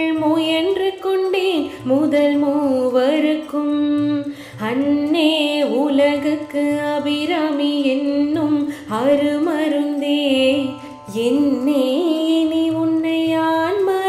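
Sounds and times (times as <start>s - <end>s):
woman singing devotional verse: 0.0s - 14.0s.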